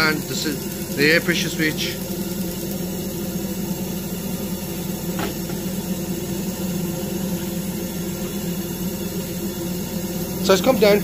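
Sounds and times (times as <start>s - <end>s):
boiler fan and pump humming: 0.0s - 11.0s.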